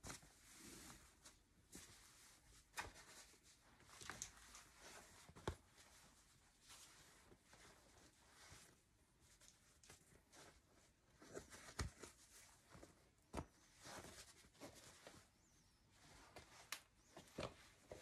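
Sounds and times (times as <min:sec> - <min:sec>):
clothing rustling: 0:00.0 - 0:18.0.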